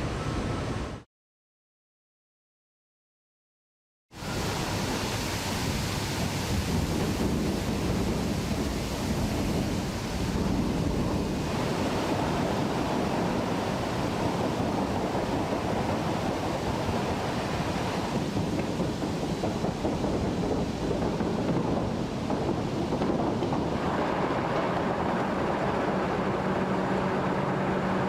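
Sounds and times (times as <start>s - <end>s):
steel mill roar: 4.2s - 28.0s.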